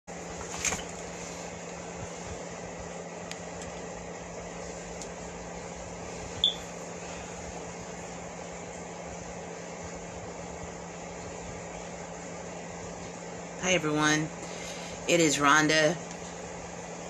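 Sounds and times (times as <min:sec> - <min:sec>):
room noise hum and hiss: 0:00.1 - 0:17.0.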